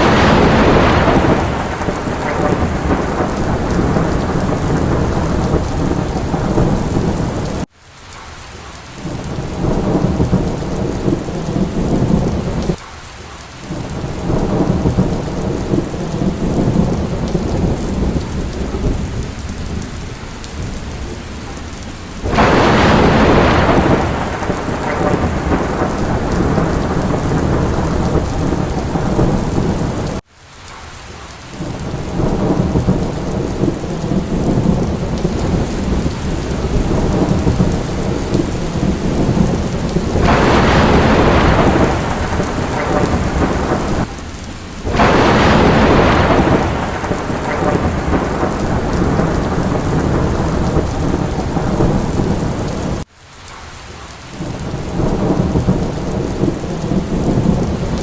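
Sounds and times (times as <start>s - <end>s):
loud thunderclaps: 0.0s - 7.7s, 9.0s - 12.8s, 13.8s - 19.9s, 22.2s - 30.2s, 31.6s - 44.2s, 44.8s - 53.1s, 54.4s - 58.0s
low thunder rumble: 0.0s - 7.7s, 9.0s - 12.8s, 13.8s - 30.2s, 31.6s - 53.0s, 54.4s - 58.0s
steady rain: 0.0s - 58.0s.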